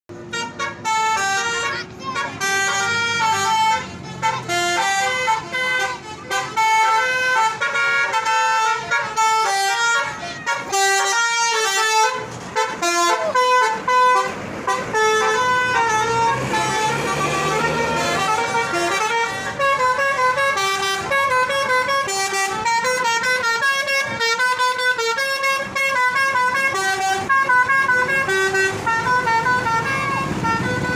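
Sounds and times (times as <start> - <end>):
multi-tone musical horn: 0.1 - 30.9.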